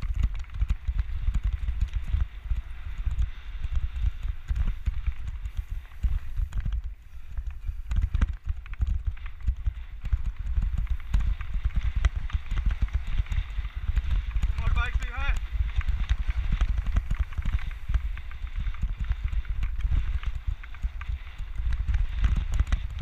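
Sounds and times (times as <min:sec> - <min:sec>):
bike knocks and rattles: 0:00.0 - 0:23.0
bike rumbling over dirt trail: 0:00.0 - 0:23.0.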